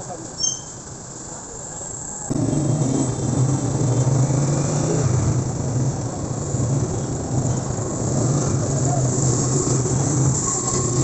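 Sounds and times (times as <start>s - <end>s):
road noise: 0.0s - 11.0s
street background: 0.0s - 11.0s
vehicle engine humming: 1.9s - 11.0s.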